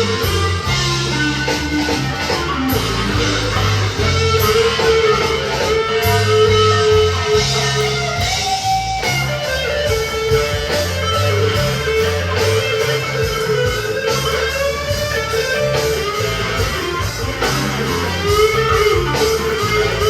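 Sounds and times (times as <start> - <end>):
fuzz electric guitar lead: 0.0 - 20.0.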